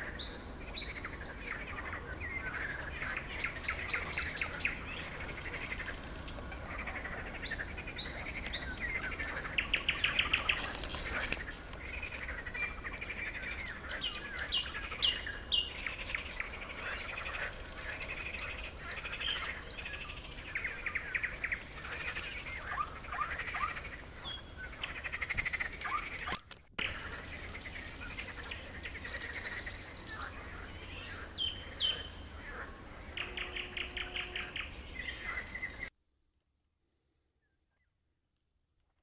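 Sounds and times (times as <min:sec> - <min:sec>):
songbirds chirping and singing: 0:00.0 - 0:35.9.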